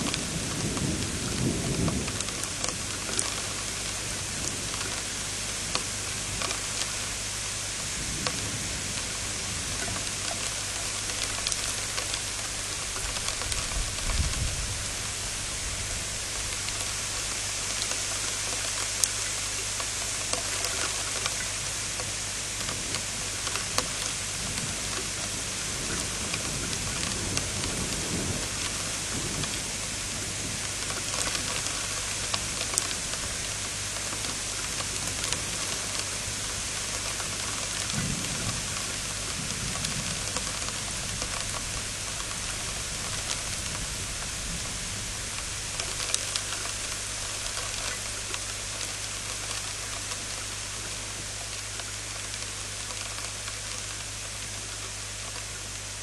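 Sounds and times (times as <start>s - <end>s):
raindrop ticks: 0.0s - 7.1s, 7.8s - 56.0s
heavy rain hissing: 0.0s - 56.0s.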